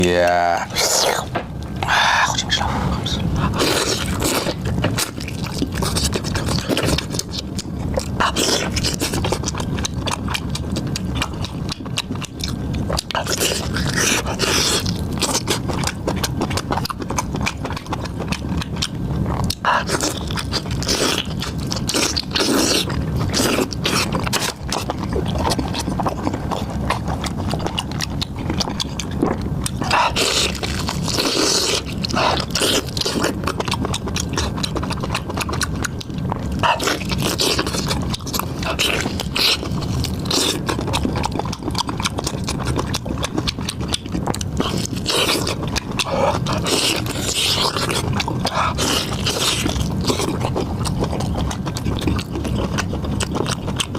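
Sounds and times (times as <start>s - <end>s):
chewing and crunching: 0.0s - 53.9s.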